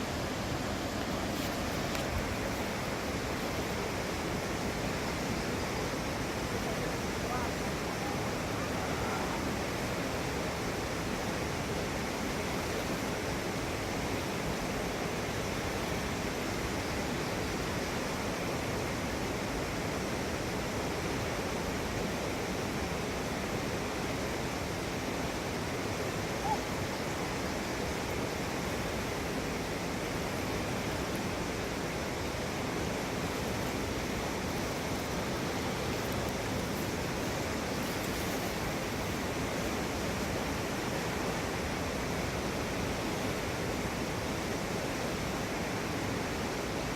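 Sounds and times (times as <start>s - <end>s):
river rapids roaring: 0.0s - 46.9s.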